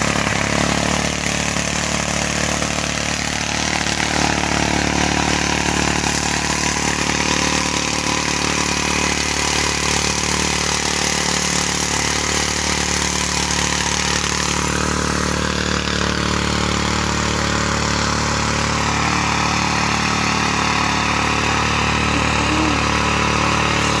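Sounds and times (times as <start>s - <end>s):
tiller engine running: 0.0s - 24.0s
tines churning soil: 0.0s - 24.0s.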